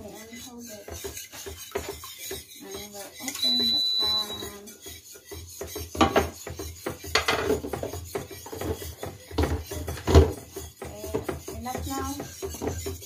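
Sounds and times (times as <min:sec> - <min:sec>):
utensil beating eggs in a bowl: 0:00.0 - 0:13.0.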